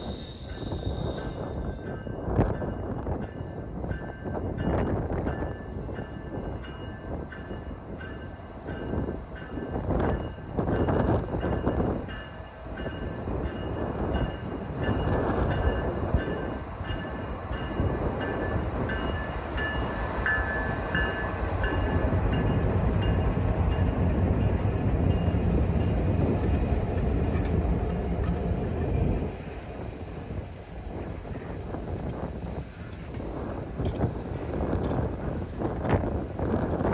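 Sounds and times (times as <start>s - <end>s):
freight train rumbling: 0.0s - 36.9s.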